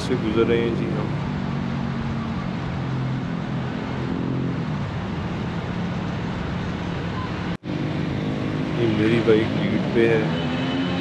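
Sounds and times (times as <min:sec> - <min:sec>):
motorcycle engines humming: 0:00.0 - 0:11.0
wind and road rushing noise: 0:00.0 - 0:11.0.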